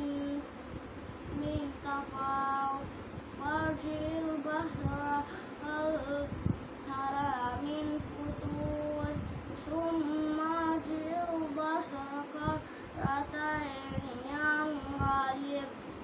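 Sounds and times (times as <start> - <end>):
boy chanting recitation: 1.3 - 15.8.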